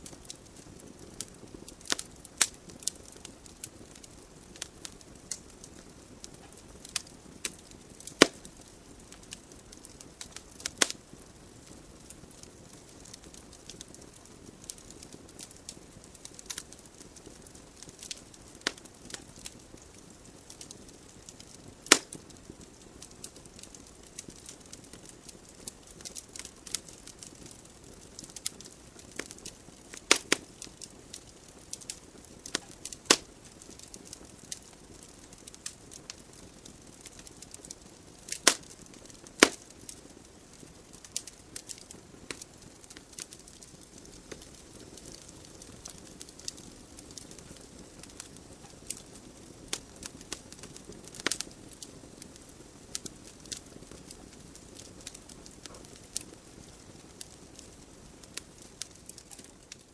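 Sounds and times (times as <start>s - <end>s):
fire hissing softly: 0.0s - 59.9s
wood fire crackling and popping: 0.0s - 59.9s.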